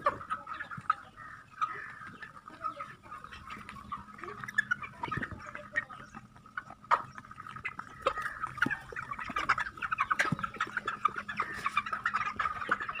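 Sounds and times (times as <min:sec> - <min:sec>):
chickens cheeping: 0:00.0 - 0:13.0.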